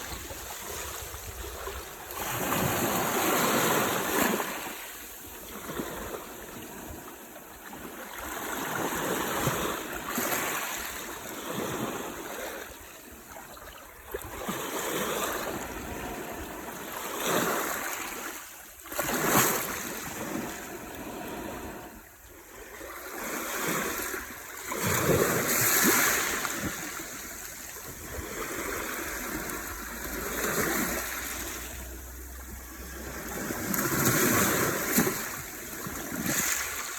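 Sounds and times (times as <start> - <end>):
sea waves breaking on shore: 0.0 - 36.9.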